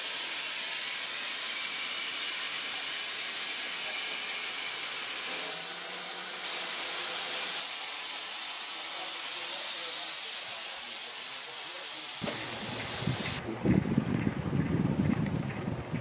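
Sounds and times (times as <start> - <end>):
steam locomotive hissing: 0.0 - 13.4.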